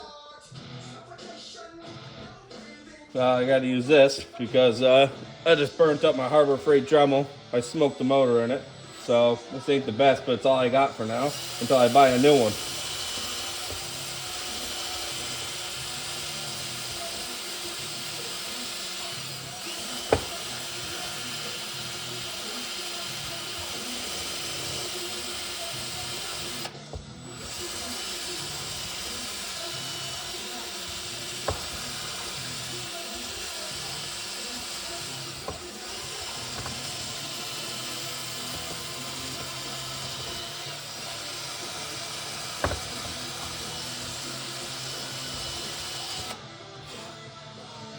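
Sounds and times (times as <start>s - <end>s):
power tool running: 7.9s - 47.2s.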